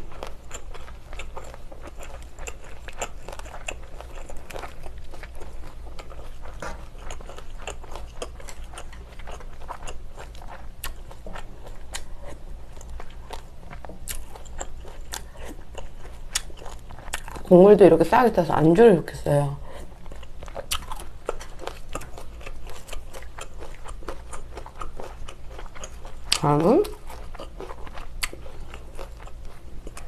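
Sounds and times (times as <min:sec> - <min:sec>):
wet chewing and crunching: 0:00.0 - 0:17.8, 0:19.6 - 0:30.0
faint low hum: 0:00.0 - 0:30.0.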